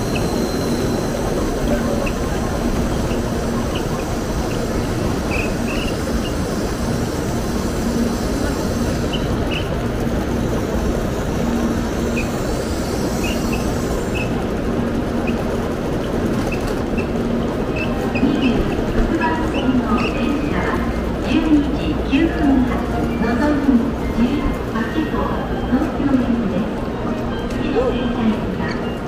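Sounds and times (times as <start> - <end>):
train running: 0.0 - 29.0.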